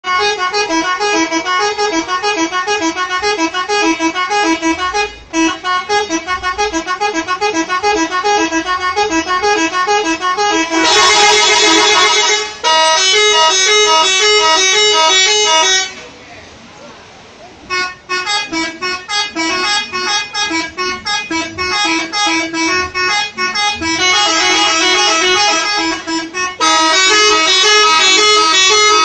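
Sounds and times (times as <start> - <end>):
bus multi-tone horn melody: 0.0 - 16.2, 17.7 - 29.0.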